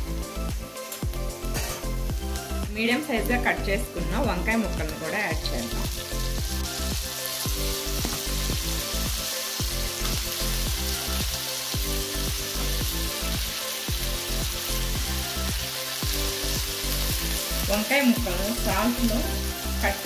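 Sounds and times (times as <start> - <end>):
background music with beat: 0.0 - 20.0
vegetables sizzling in oil: 0.0 - 20.0.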